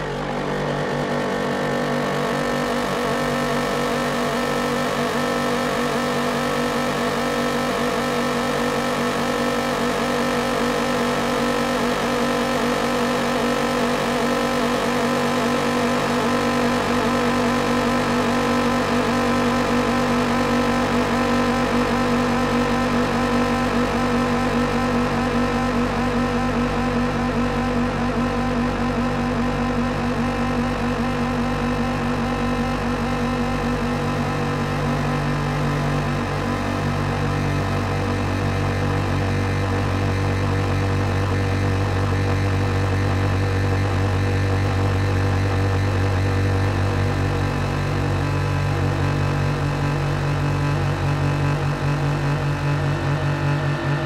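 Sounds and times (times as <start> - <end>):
engine humming steadily: 0.0 - 54.0.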